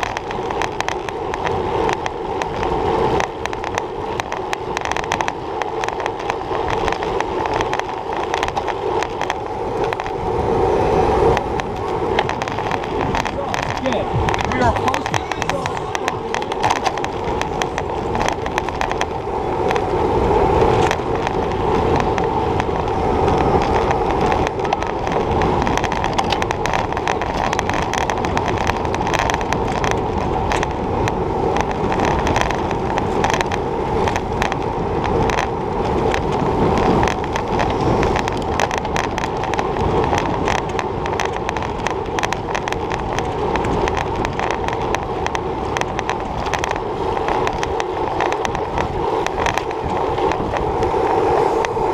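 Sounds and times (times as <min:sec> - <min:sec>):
bike rattling: 0:00.0 - 0:51.9
tyre noise on asphalt: 0:00.0 - 0:51.9
wind rush: 0:00.0 - 0:51.9.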